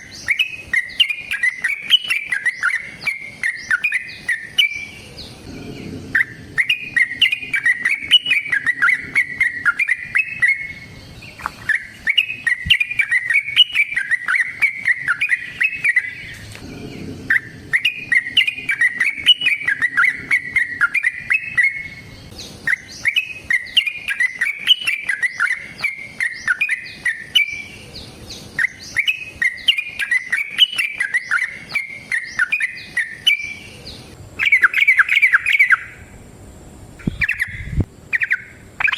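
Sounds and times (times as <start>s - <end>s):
bird singing bubbling chatter: 0.0s - 36.1s, 37.0s - 38.9s.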